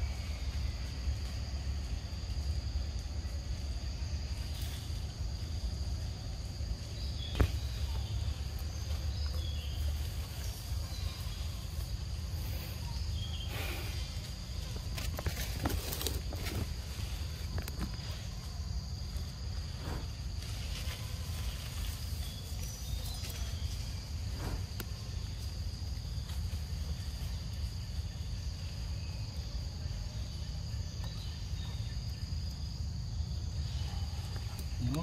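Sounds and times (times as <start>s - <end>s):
insect chorus drone: 0.0s - 35.0s.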